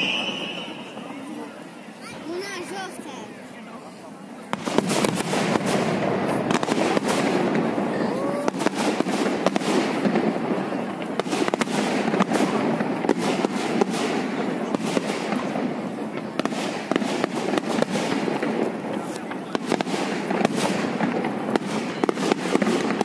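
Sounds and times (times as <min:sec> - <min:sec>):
crowd hubbub: 0:00.0 - 0:23.0
fireworks bursting: 0:00.0 - 0:23.0.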